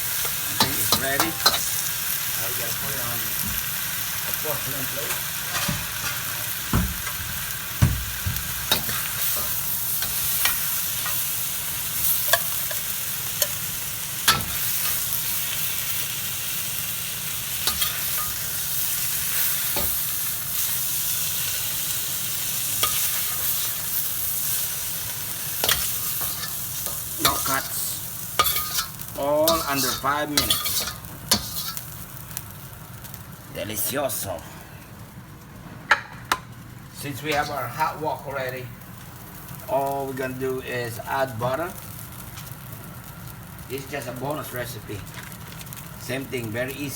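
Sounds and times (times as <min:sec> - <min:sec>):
vegetables sizzling in a wok: 0:00.0 - 0:46.9.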